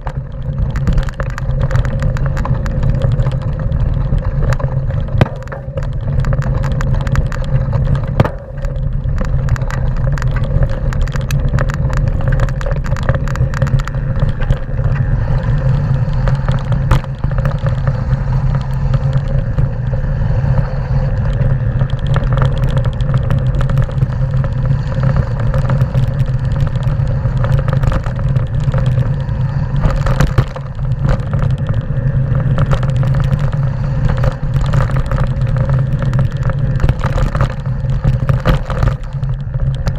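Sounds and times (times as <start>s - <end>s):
bike rattling over stones: 0.0s - 39.9s
tyres rumbling on gravel: 0.0s - 39.9s
wind on microphone: 0.0s - 39.9s.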